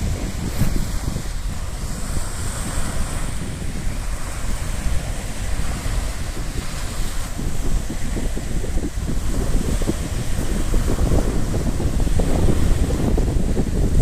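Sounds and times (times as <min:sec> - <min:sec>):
sea waves washing on shore: 0:00.0 - 0:14.0
wind rumble on microphone: 0:00.0 - 0:14.0.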